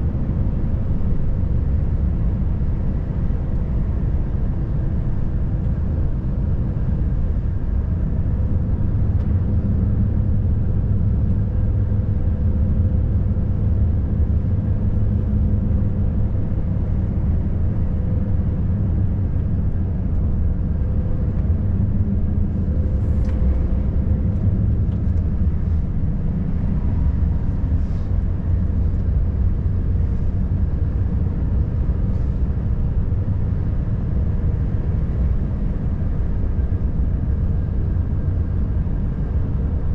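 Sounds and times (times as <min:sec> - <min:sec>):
truck diesel engine droning: 0:06.0 - 0:39.9.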